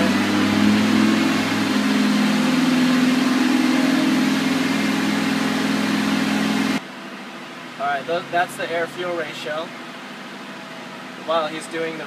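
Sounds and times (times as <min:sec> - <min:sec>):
car engine revving steadily: 0:00.0 - 0:12.0.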